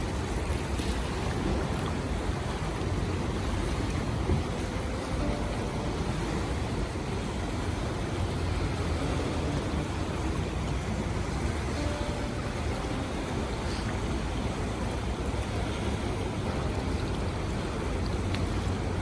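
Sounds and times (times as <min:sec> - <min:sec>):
whitewater rushing: 0:00.0 - 0:19.0
wind rumble on microphone: 0:00.0 - 0:19.0.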